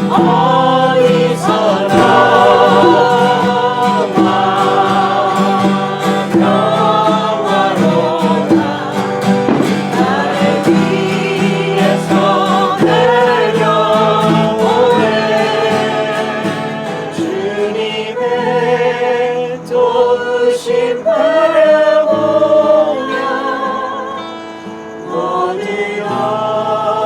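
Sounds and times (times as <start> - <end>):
group singing: 0.0 - 27.0
strummed acoustic guitar: 0.0 - 27.0.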